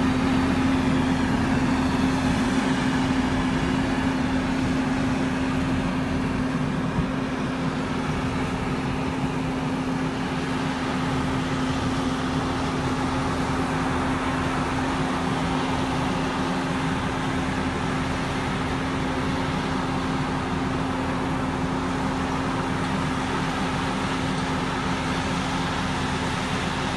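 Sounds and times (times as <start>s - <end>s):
sprayer machine droning: 0.0s - 26.9s.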